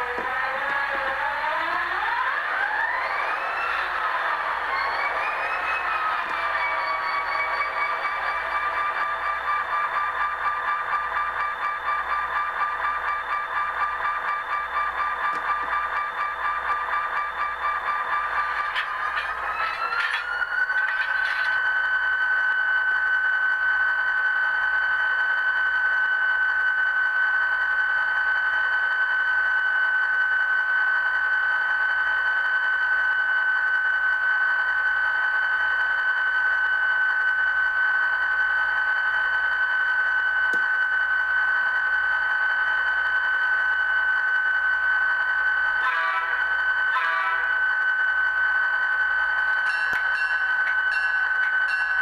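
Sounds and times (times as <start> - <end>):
high-pitched electronic whine: 0.0 - 52.0.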